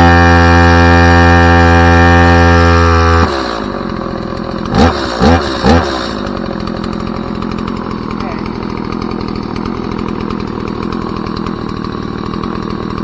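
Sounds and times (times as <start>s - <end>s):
chainsaw idling with throttle blips: 0.0s - 13.0s
loud steady buzz: 0.0s - 13.0s.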